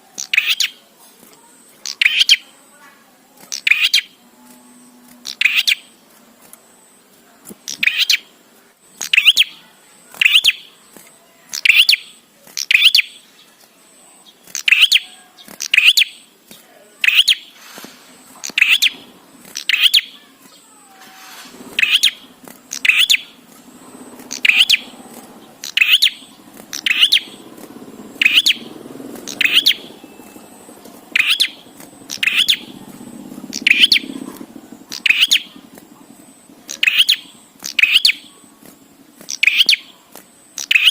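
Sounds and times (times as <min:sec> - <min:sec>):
faint low hum: 0:00.0 - 0:40.9
bird chirping: 0:00.1 - 0:00.9, 0:01.6 - 0:02.6, 0:03.5 - 0:06.0, 0:07.6 - 0:08.3, 0:08.9 - 0:40.9.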